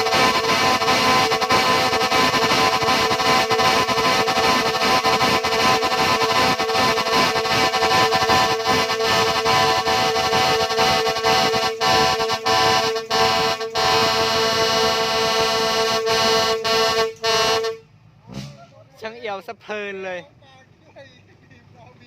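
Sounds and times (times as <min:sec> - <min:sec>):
truck air horn: 0:00.0 - 0:18.8.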